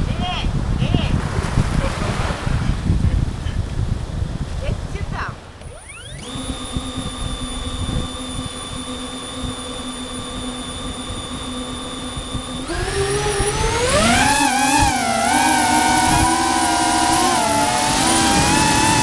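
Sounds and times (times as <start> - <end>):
drone propeller motors whining: 1.8 - 19.0.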